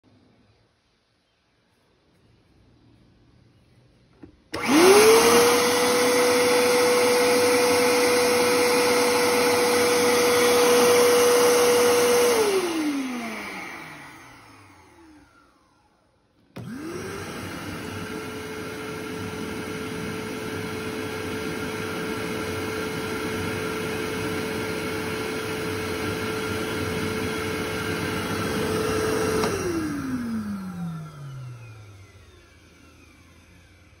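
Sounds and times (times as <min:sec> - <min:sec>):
shop vacuum motor whine: 0:04.2 - 0:34.0.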